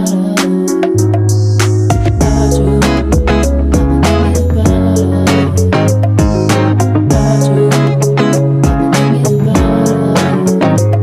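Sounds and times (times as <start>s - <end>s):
plucked guitar music with beat: 0.0s - 11.0s.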